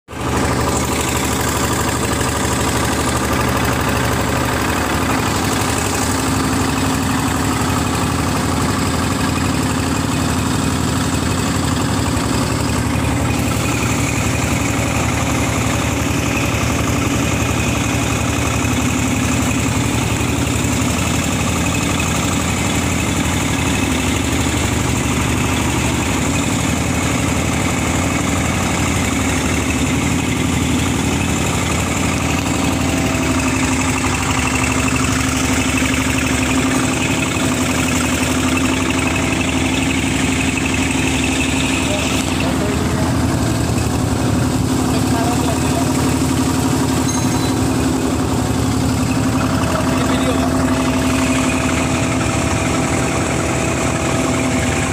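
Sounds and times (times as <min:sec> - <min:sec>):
small pump engine running: 0:00.0 - 0:54.9.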